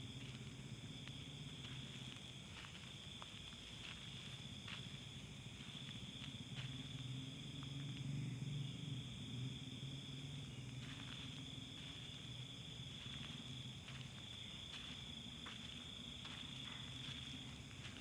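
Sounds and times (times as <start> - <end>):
footsteps on dirt and gravel: 0.0 - 8.0, 10.3 - 18.0
crickets chirring: 0.0 - 18.0.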